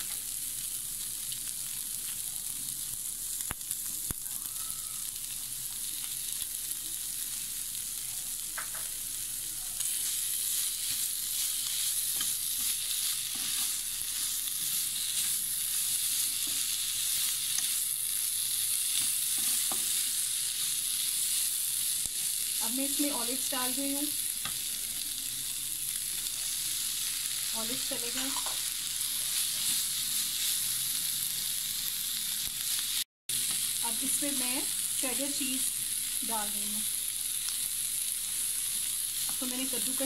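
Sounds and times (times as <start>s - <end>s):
food sizzling in frying pan: 0.0s - 40.0s.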